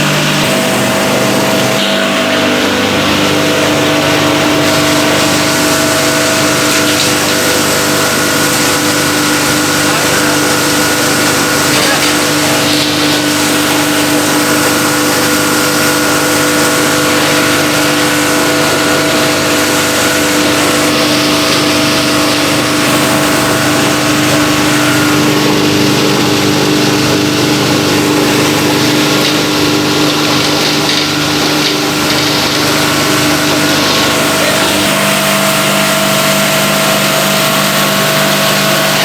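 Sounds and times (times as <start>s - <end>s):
grinder machine humming: 0.0s - 39.0s.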